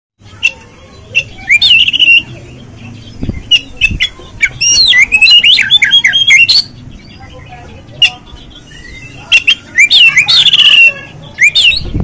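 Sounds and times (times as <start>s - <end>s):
bird singing whistled notes: 0.3s - 12.0s.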